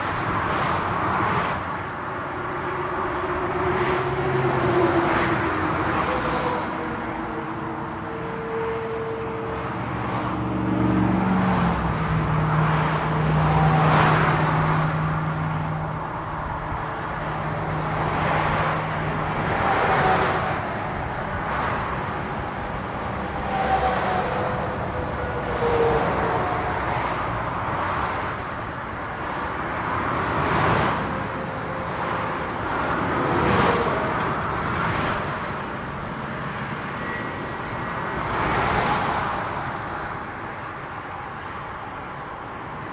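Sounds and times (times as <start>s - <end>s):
cars passing on highway: 0.0s - 42.9s.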